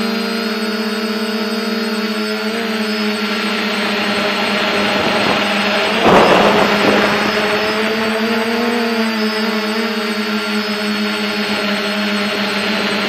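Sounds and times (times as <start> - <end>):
drone motors whining: 0.5 - 13.0.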